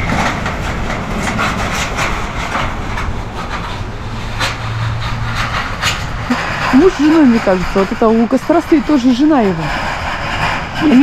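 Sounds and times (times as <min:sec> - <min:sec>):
waves breaking on beach: 0:00.0 - 0:11.0
wind on microphone: 0:00.0 - 0:11.0.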